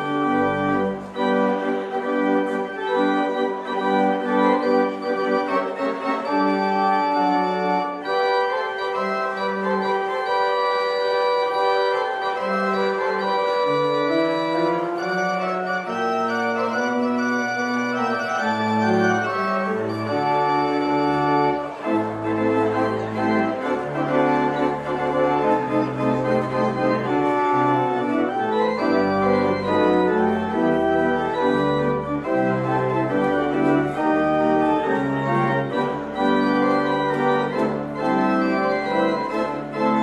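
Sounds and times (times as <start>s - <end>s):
church organ playing chords: 0.0s - 40.0s.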